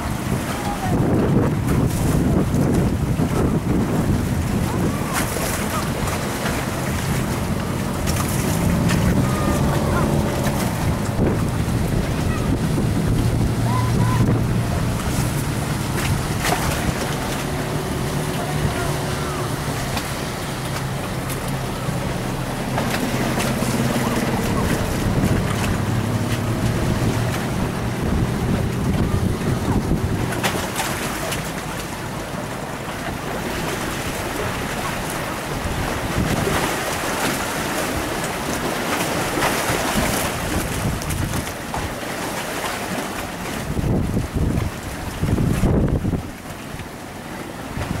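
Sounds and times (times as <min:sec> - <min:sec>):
wind on microphone: 0:00.0 - 0:31.4, 0:33.0 - 0:42.1, 0:43.4 - 0:47.0, 0:47.6 - 0:48.0
motor boat engine running: 0:00.0 - 0:48.0
water and waves: 0:00.0 - 0:48.0.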